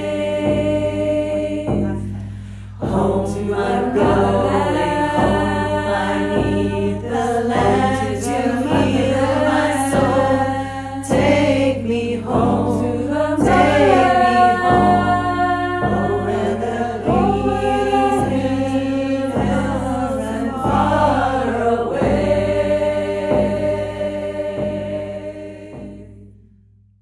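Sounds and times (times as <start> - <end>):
group singing in harmony: 0.0 - 26.5.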